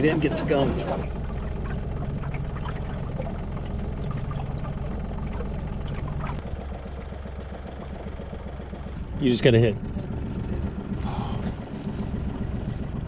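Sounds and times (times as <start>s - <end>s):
boat motor running: 0.0s - 13.0s
water splashing along hull: 0.0s - 13.0s.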